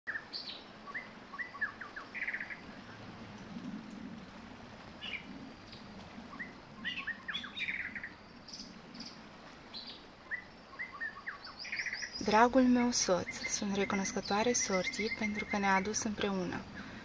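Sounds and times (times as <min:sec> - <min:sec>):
songbirds chirping: 0:00.1 - 0:17.0.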